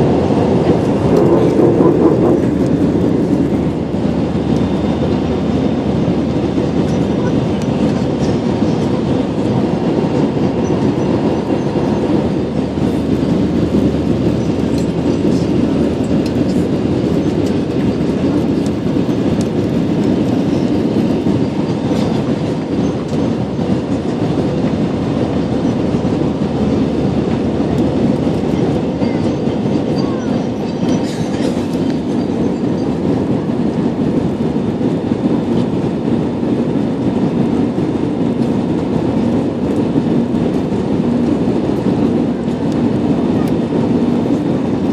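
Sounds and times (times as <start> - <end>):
airliner cabin jet engine noise: 0.0 - 44.9.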